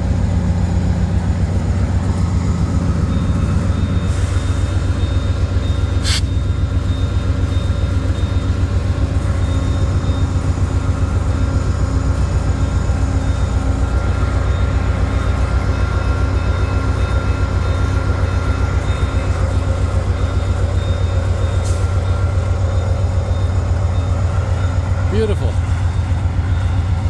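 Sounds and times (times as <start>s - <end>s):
diesel locomotive idling: 0.0s - 27.0s.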